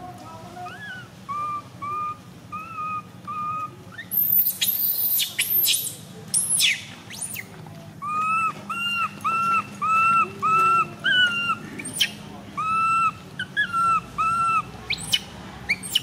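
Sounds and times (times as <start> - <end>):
baby monkey crying: 0.6 - 16.0.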